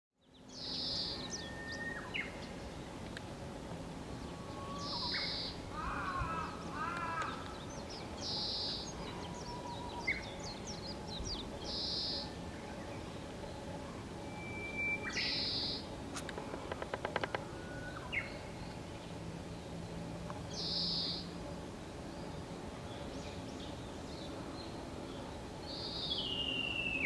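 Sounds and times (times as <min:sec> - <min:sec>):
birds chirping and warbling: 0:00.2 - 0:03.2, 0:03.9 - 0:19.8, 0:20.4 - 0:27.0.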